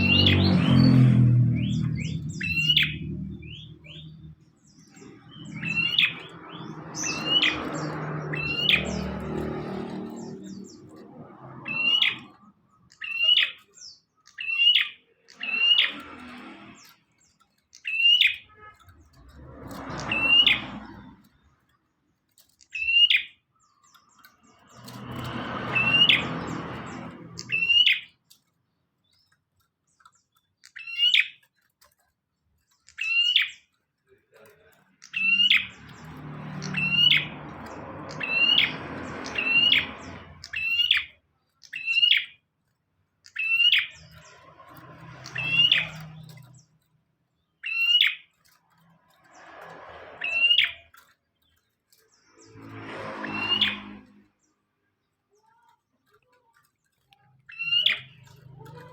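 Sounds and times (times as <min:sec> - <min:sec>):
bird calling with high chirps: 0:00.0 - 0:21.4, 0:22.5 - 0:28.3, 0:29.0 - 0:31.6, 0:32.7 - 0:33.8, 0:35.0 - 0:42.5, 0:43.2 - 0:48.5, 0:49.3 - 0:54.6, 0:56.8 - 0:58.9.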